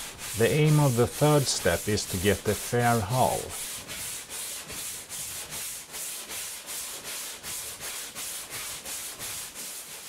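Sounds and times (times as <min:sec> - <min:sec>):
sandpaper sanding strokes: 0:00.0 - 0:10.0.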